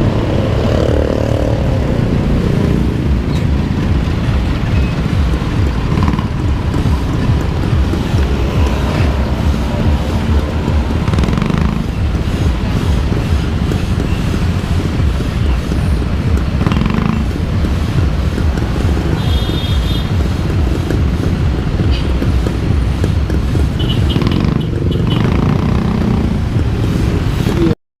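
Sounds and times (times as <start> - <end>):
vehicle engine and road rumble: 0.0 - 27.8.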